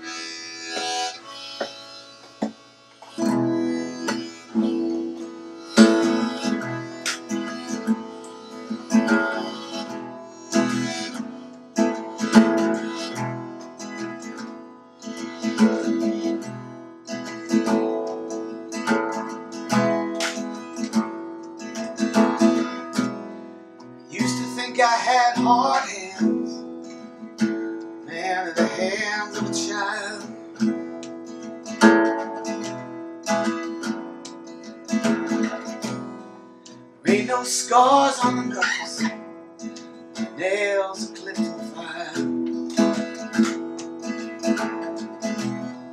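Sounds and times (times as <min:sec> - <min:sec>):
harmonica phrases: 0:00.0 - 0:21.2, 0:22.0 - 0:26.7, 0:27.4 - 0:36.1, 0:37.0 - 0:45.9
acoustic guitar strumming: 0:00.0 - 0:45.9.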